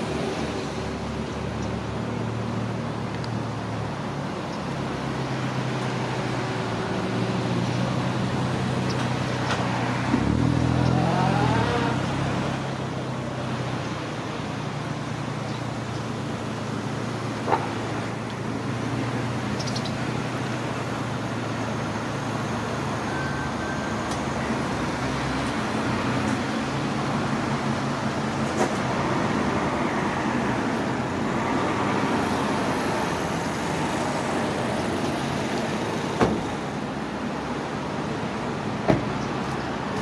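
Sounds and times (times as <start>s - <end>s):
passing cars: 0.0s - 40.0s.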